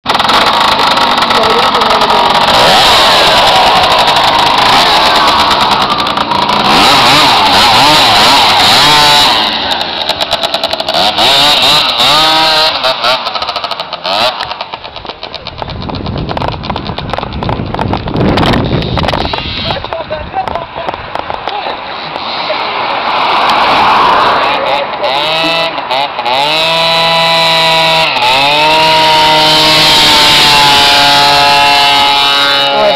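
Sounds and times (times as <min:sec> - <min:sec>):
scooter engine revving: 0:00.0 - 0:32.9.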